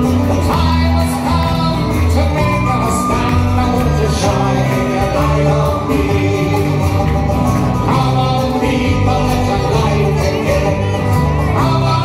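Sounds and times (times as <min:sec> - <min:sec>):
banjo: 0:00.0 - 0:12.0
lead vocal singing: 0:00.0 - 0:12.0
strummed acoustic guitar: 0:00.0 - 0:12.0
upright bass: 0:00.0 - 0:12.0.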